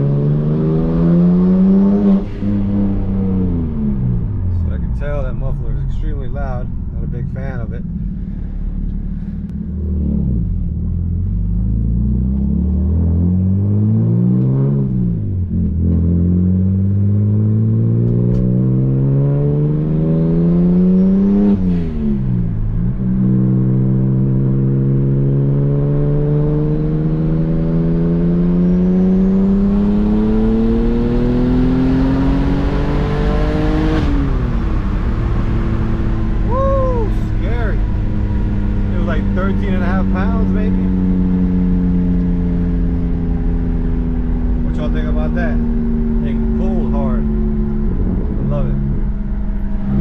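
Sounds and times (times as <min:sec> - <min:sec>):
car engine accelerating through gears: 0:00.0 - 0:50.0.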